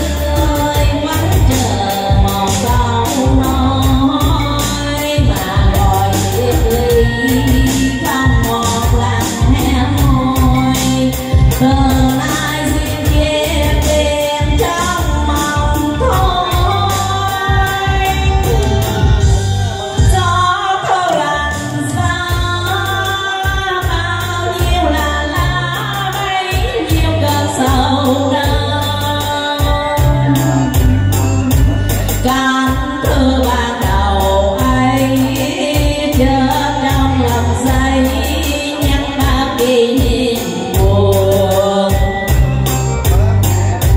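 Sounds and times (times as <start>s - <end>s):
backing track with steady beat: 0.0s - 43.9s
woman singing into a microphone: 0.0s - 43.9s.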